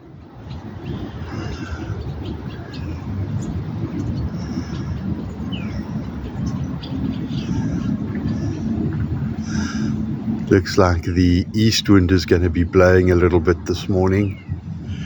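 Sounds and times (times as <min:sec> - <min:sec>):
steady low rumble: 0:00.0 - 0:15.0
swallows twittering: 0:00.4 - 0:15.0.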